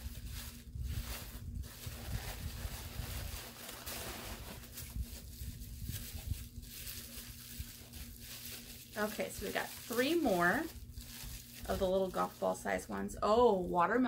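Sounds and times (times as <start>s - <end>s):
packaging rustling and crinkling: 0.0s - 12.8s
faint electrical hum: 0.0s - 14.0s.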